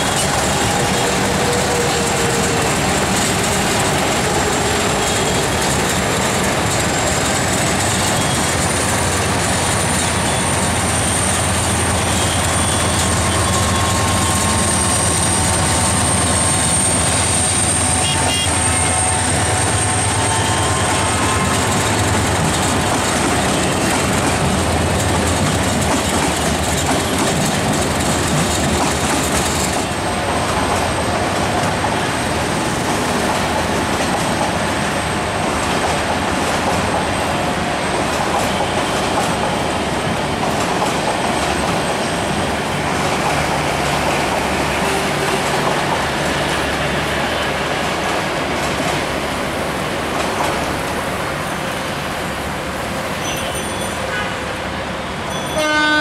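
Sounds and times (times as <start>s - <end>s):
train wheels clattering over rails: 0.0s - 53.9s.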